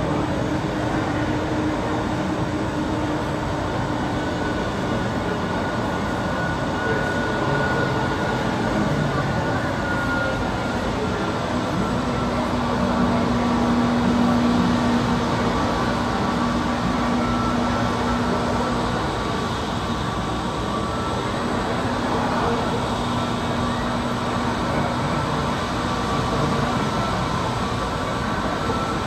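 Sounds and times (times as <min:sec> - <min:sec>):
airliner engines rumbling: 0:00.0 - 0:29.0.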